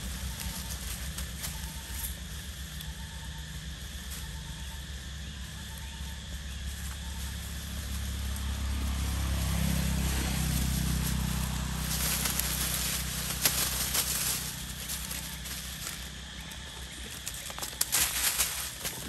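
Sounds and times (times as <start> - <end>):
dry leaves rustling and crackling: 0.0 - 19.0.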